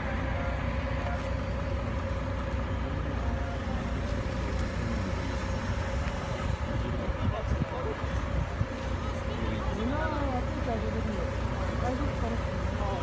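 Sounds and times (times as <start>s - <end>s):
crane truck engine running: 0.0s - 13.0s.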